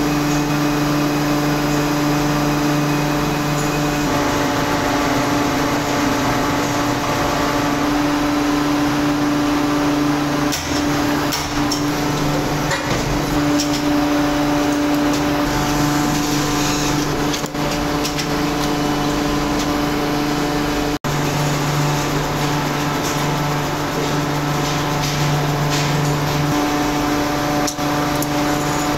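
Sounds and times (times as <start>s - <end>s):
die-casting machinery droning: 0.0s - 28.9s.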